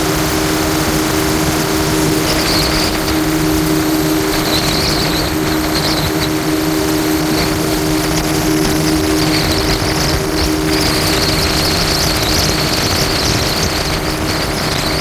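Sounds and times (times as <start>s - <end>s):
high engine whine: 0.0s - 15.0s
jet ski engine humming: 0.0s - 15.0s
water and wind noise: 0.0s - 15.0s.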